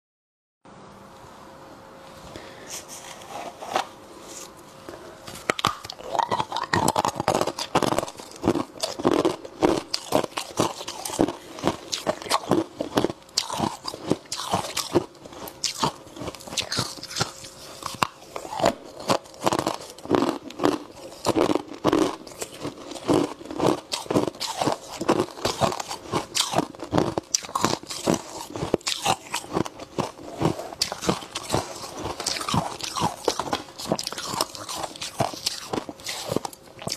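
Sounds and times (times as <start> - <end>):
frost crunching while chewed: 5.3 - 36.9.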